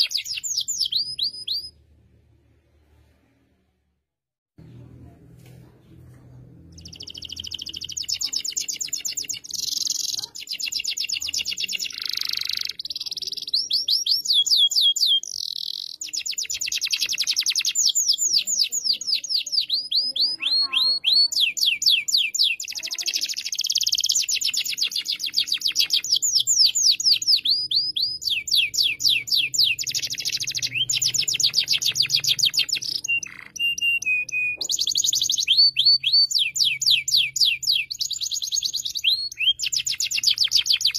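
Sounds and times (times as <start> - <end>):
canary singing trills: 0.0 - 1.8, 6.7 - 40.9.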